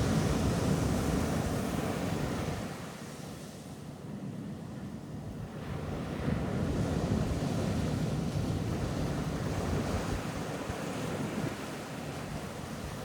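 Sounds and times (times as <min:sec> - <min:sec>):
ocean waves on a beach: 0:00.0 - 0:13.0.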